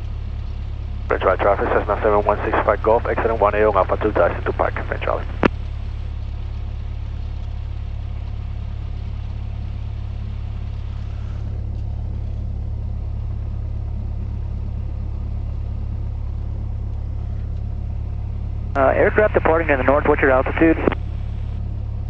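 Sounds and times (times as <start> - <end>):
airplane engine and propeller droning: 0.0 - 22.0.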